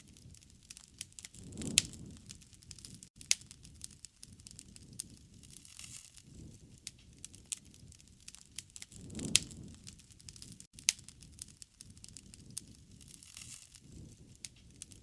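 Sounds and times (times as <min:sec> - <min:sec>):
low rush of flames: 0:00.0 - 0:15.0
wood fire crackling and popping: 0:00.0 - 0:15.0.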